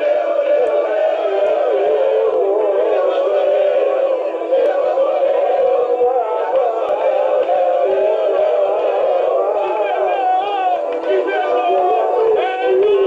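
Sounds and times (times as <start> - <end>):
men singing through small speaker: 0.0 - 13.0.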